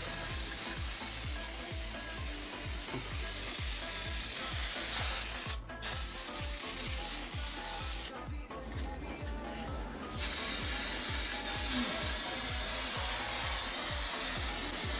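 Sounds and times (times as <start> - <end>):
music with kick-drum beat: 0.0 - 14.9.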